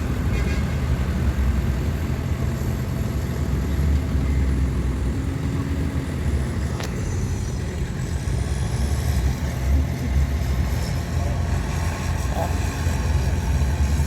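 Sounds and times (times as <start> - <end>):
heavy diesel machinery rumbling: 0.0 - 14.0.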